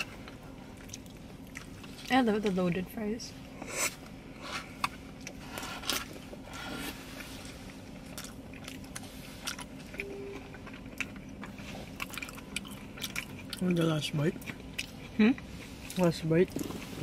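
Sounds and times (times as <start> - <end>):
chewing and wet mouth sounds: 0.0 - 2.8, 4.8 - 17.0.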